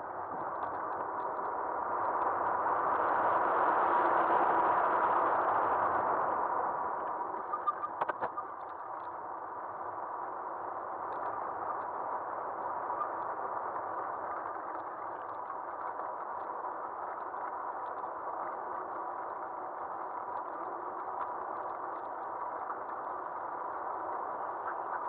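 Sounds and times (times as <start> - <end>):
faint steady whine: 0.0 - 25.0.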